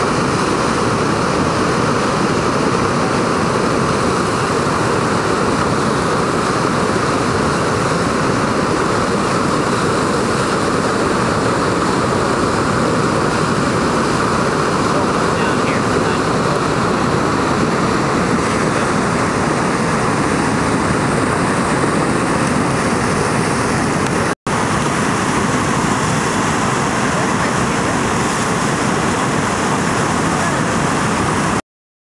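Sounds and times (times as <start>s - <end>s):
whitewater rushing: 0.0s - 31.6s.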